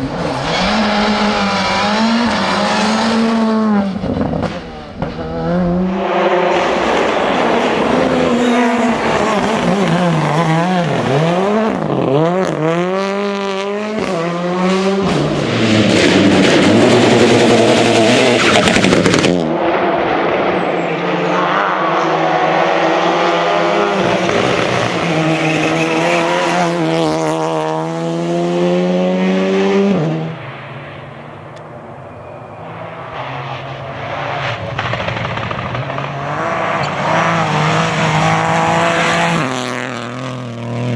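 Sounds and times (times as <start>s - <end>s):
car accelerating through gears: 0.0s - 40.9s
rally car engines revving: 0.0s - 40.9s.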